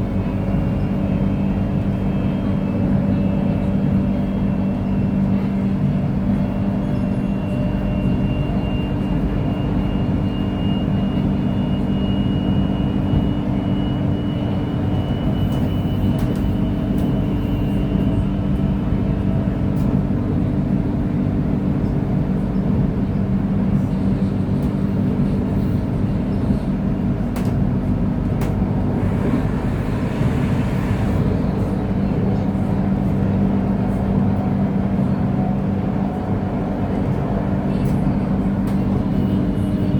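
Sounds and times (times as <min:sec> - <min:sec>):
electric train humming: 0:00.0 - 0:39.9.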